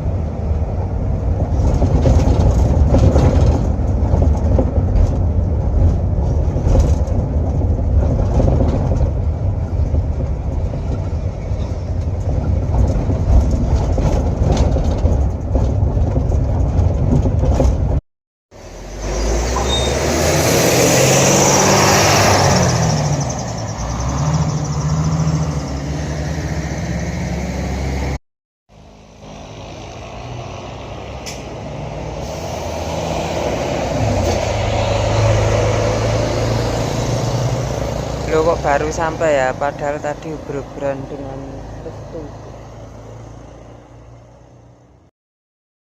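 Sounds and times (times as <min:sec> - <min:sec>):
bus engine and road noise: 0:00.0 - 0:45.1.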